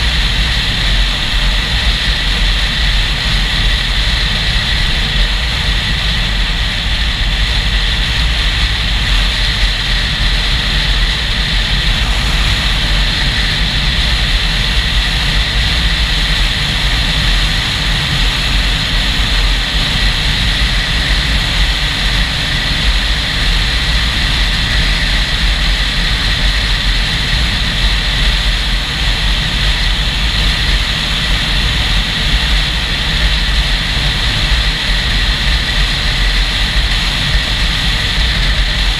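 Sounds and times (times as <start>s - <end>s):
motorcycle engine: 0.0s - 38.9s
road noise: 0.0s - 38.9s
wind buffeting microphone: 0.0s - 38.9s.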